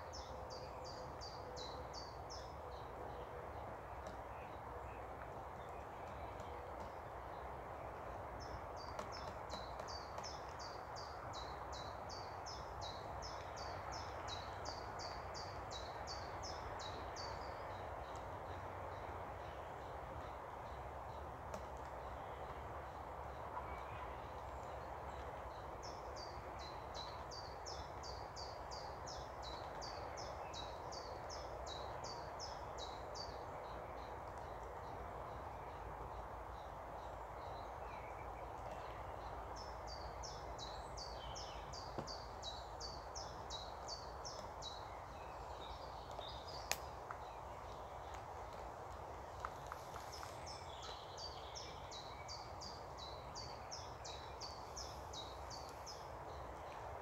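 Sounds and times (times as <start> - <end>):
faint background hiss: 0.0 - 57.0
songbird singing: 0.0 - 57.0.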